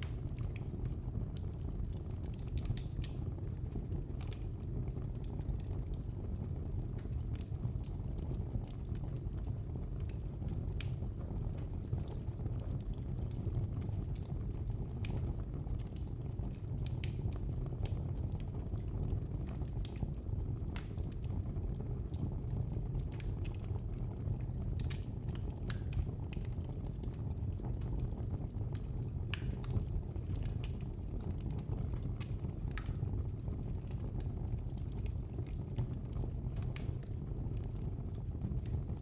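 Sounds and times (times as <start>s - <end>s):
fire crackling and popping: 0.0s - 39.0s
low rumble of burning fire: 0.0s - 39.0s.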